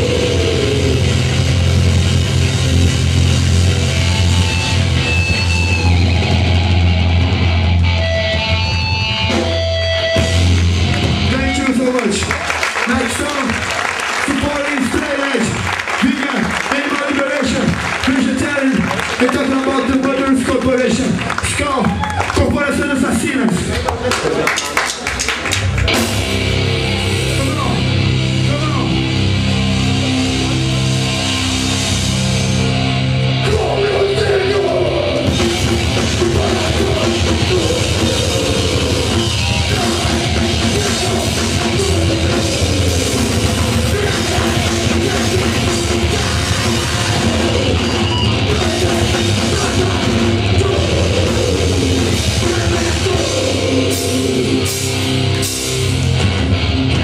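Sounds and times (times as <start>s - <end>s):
live hardcore band: 0.0s - 57.0s.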